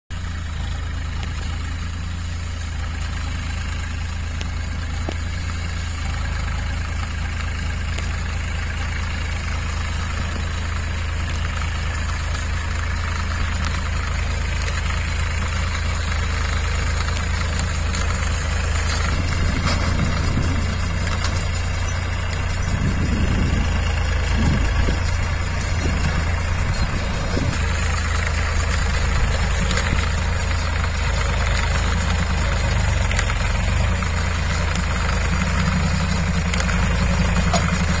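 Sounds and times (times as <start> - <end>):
tractor diesel engine running: 0.1 - 38.0
baler mechanical rattle: 0.2 - 38.0.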